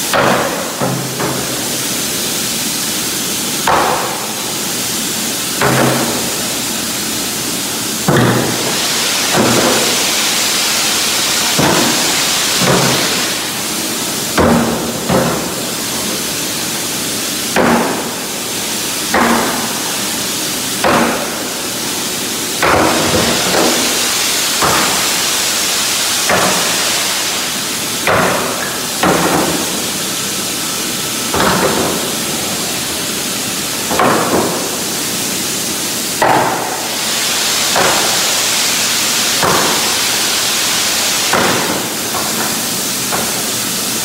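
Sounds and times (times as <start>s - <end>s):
steady background hiss: 0.0s - 44.0s.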